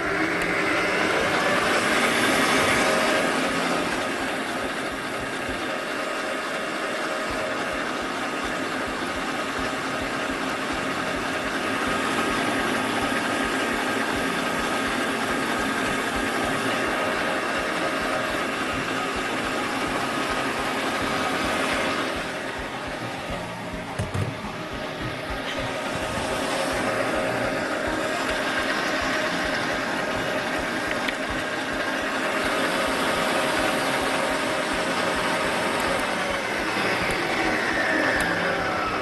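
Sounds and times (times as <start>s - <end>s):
electric stand mixer whining: 0.0s - 39.0s.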